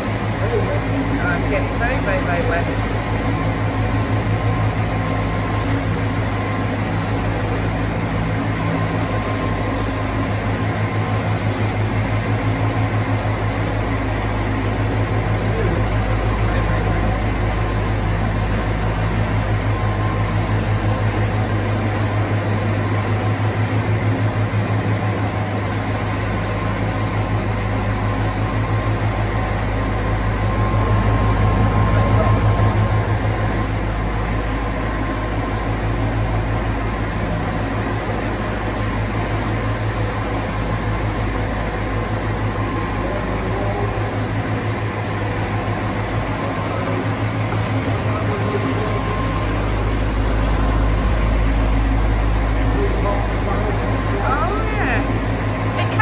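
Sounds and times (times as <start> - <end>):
boat diesel engine throbbing: 0.0 - 56.0.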